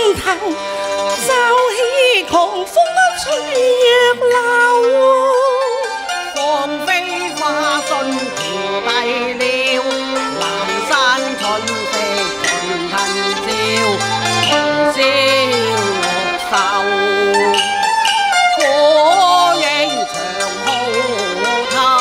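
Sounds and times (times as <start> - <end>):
bowed strings ensemble melody: 0.0 - 22.0.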